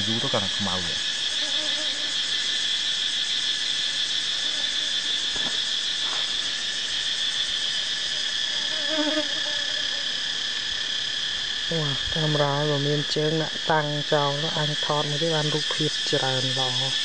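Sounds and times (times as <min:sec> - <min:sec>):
insects chorus droning: 0:00.0 - 0:17.0.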